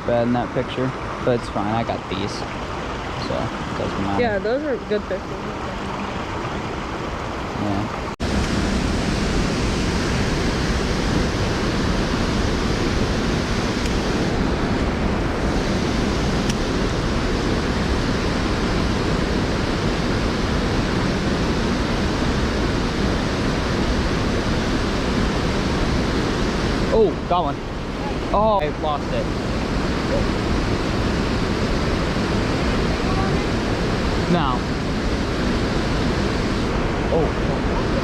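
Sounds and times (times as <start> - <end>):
waterfall roaring: 0.0 - 38.0.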